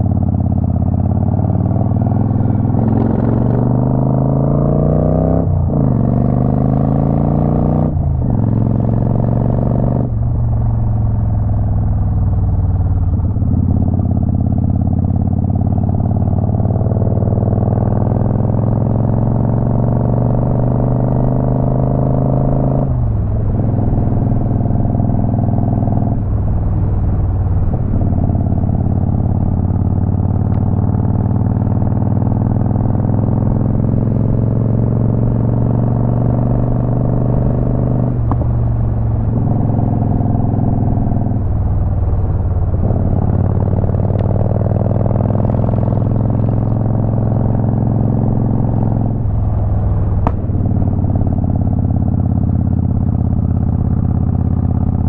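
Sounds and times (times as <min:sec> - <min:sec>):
motorcycle engine revving: 0:00.0 - 0:10.6, 0:11.8 - 0:55.0.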